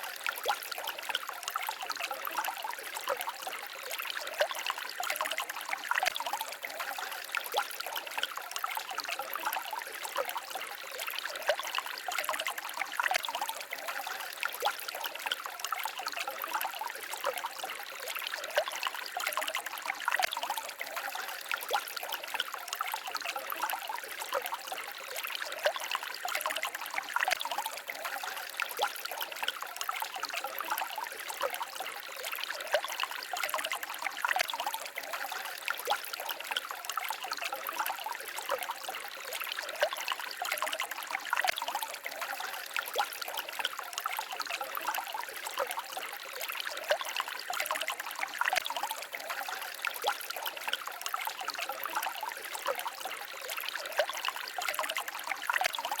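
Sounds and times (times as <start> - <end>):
small stream babbling: 0.0 - 56.0.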